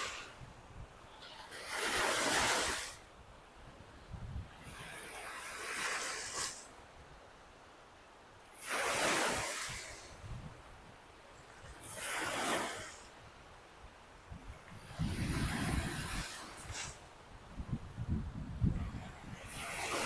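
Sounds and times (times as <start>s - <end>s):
waves washing up beach: 0.0s - 20.0s.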